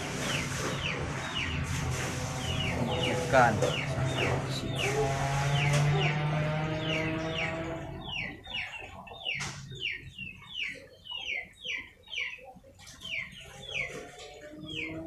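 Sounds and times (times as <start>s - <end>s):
chicken peeping: 0.0s - 15.0s.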